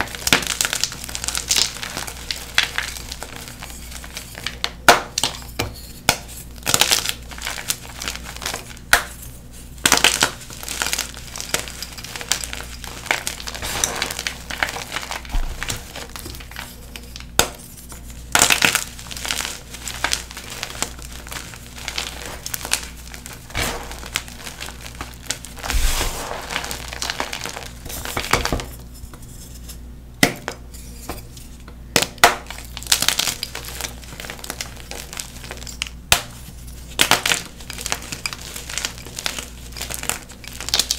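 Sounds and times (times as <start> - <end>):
chalk block crumbling and crunching: 0.0 - 31.1, 31.9 - 40.9.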